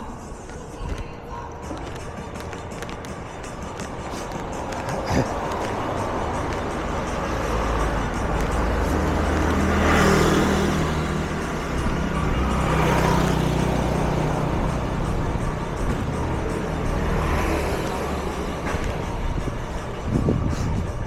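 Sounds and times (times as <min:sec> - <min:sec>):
low engine hum of traffic: 0:00.0 - 0:21.0
vehicles passing close by: 0:00.0 - 0:21.0.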